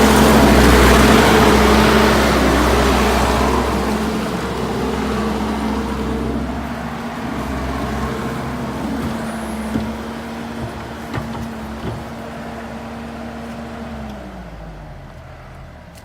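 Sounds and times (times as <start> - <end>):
skid steer engine running: 0.0 - 16.0.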